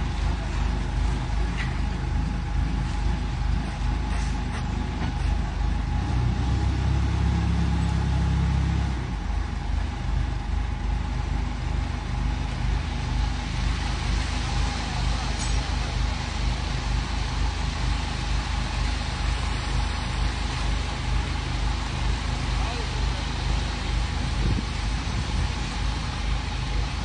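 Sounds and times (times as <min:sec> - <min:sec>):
concrete mixer engine running: 0:00.0 - 0:27.0
thin steady whine: 0:00.0 - 0:27.0.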